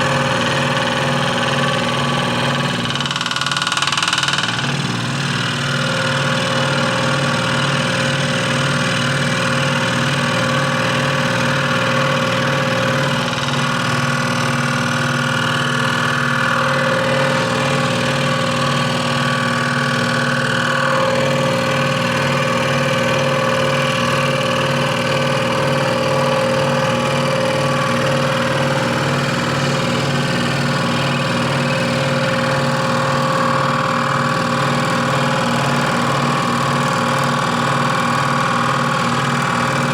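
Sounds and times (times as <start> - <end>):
scroll saw cutting wood: 0.0 - 39.9.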